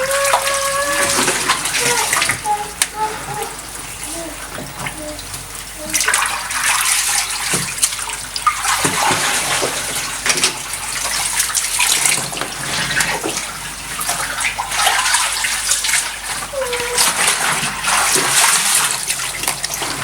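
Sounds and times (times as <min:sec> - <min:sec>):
water sloshing in washing machine: 0:00.0 - 0:20.0.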